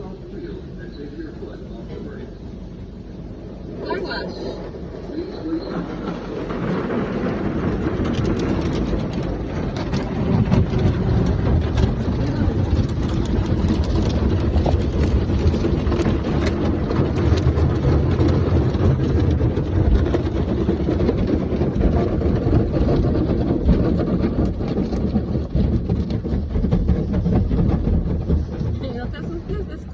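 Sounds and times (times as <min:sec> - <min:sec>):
car wash machinery: 0:00.0 - 0:29.9
water spraying onto car: 0:02.5 - 0:29.9.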